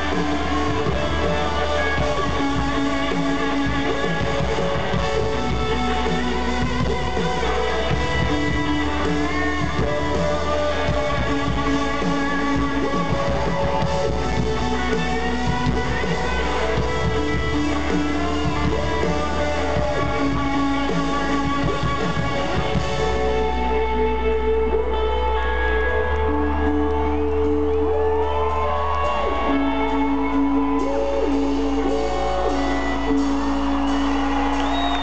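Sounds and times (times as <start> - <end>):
bass: 0.0 - 35.0
drums: 0.0 - 35.0
electric guitar: 0.0 - 35.0.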